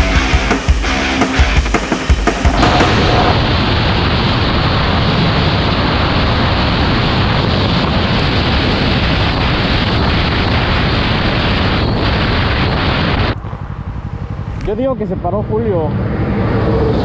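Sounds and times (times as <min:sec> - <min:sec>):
wind buffeting microphone: 0:02.4 - 0:17.0.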